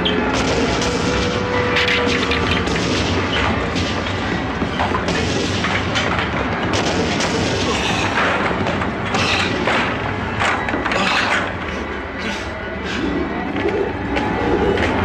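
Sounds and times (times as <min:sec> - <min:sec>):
continuous deep rumble: 0:00.0 - 0:15.0.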